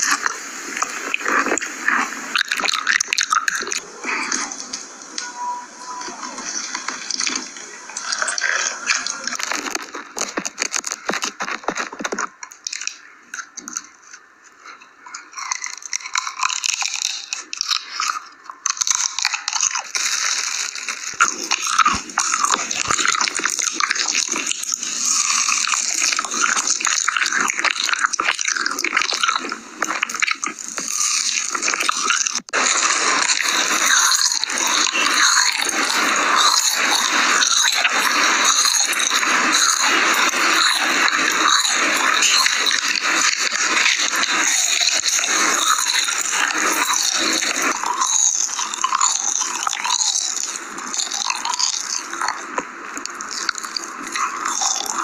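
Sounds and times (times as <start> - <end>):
food crunching when chewed: 0.0 - 4.4, 6.7 - 55.0.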